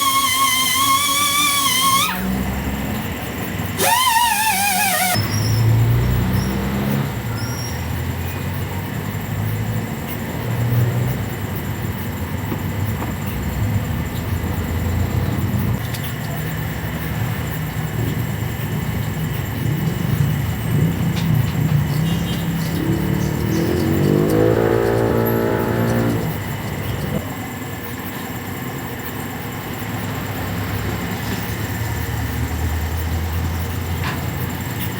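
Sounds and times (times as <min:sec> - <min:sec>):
road traffic rumble: 0:00.0 - 0:34.9.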